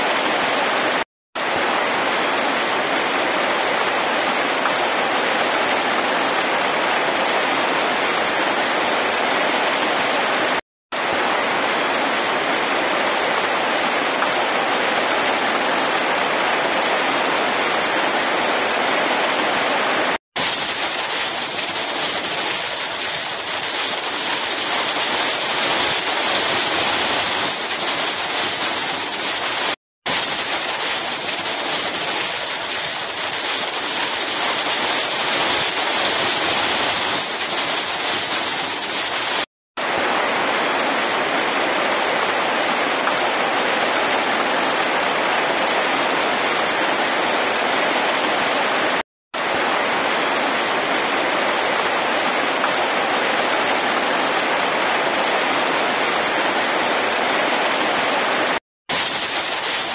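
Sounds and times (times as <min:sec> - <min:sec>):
heavy rain on road: 0:00.0 - 0:59.9.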